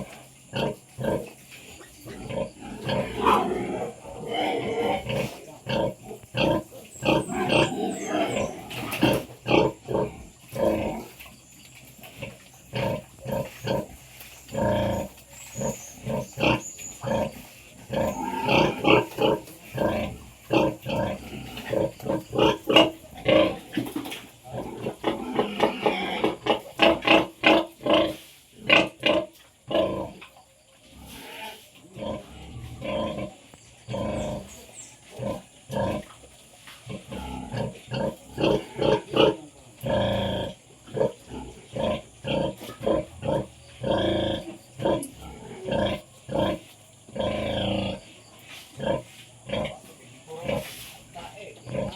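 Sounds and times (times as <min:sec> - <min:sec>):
pigs grunting and squealing: 0:00.0 - 0:50.8, 0:51.5 - 0:51.9.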